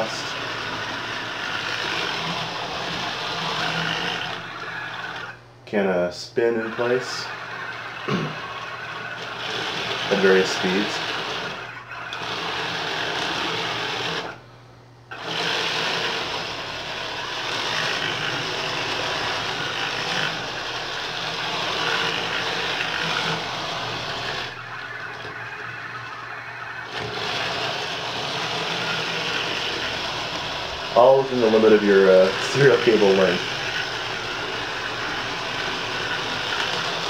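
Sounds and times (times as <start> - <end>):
robot vacuum motors whirring: 0.0 - 5.4, 6.4 - 14.4, 15.1 - 37.0.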